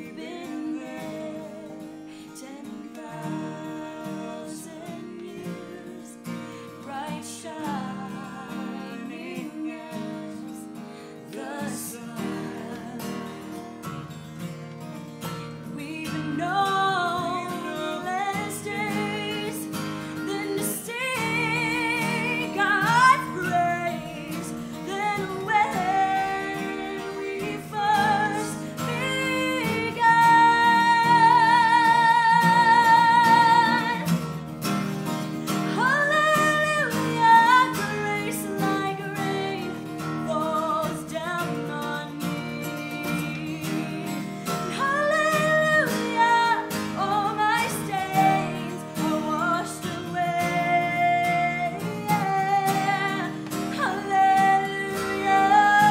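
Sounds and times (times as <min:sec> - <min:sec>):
woman singing: 0:00.0 - 0:13.9, 0:15.6 - 0:34.4, 0:35.5 - 0:55.9
strummed acoustic guitar: 0:00.0 - 0:55.9.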